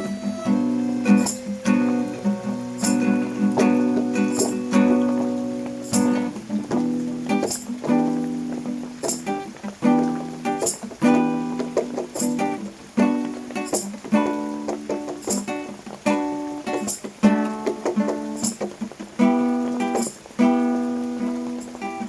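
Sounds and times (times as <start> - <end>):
acoustic string instrument strummed: 0.0 - 22.0.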